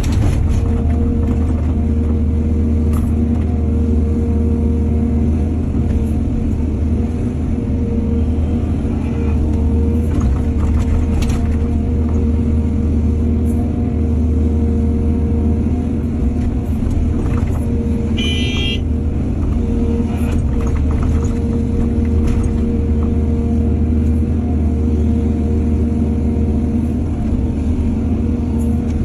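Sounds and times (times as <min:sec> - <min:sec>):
heavy machinery diesel engine drone: 0:00.0 - 0:29.0.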